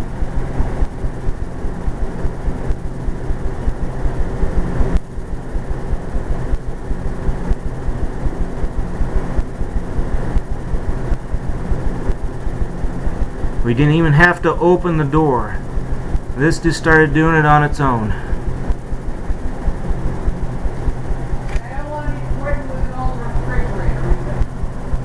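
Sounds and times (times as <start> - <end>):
refrigerator humming: 0.0 - 25.0.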